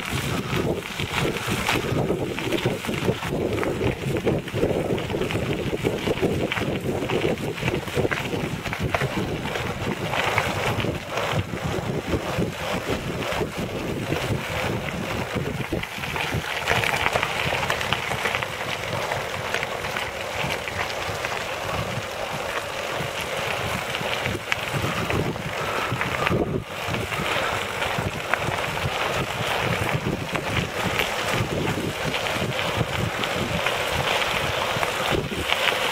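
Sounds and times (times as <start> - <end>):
tyres rolling over gravel: 0.0 - 35.9
wind buffeting microphone: 0.0 - 35.9.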